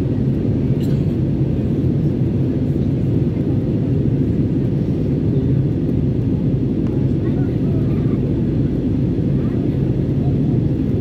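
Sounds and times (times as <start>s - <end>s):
jet engines at climb power: 0.0s - 11.0s.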